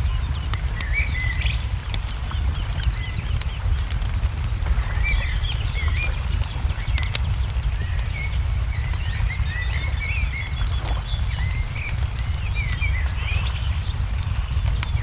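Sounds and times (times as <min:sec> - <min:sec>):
small birds chirping: 0:00.0 - 0:15.0
wood fire crackling: 0:00.0 - 0:15.0.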